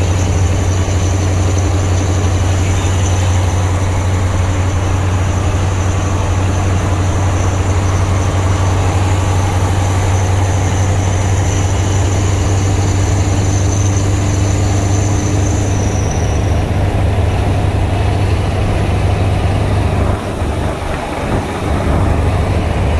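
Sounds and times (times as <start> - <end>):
truck engine deep drone: 0.0 - 22.9.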